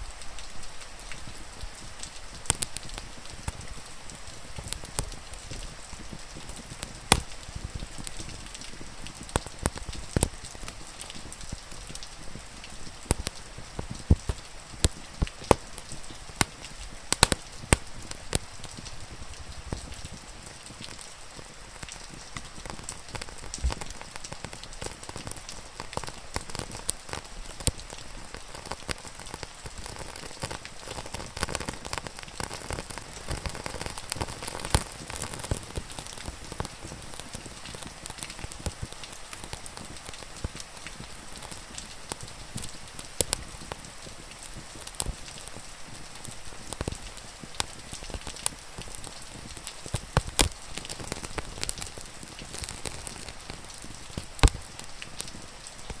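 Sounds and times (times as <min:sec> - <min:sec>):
steady rain: 0:00.0 - 0:56.0
wood fire popping and crackling: 0:00.0 - 0:56.0.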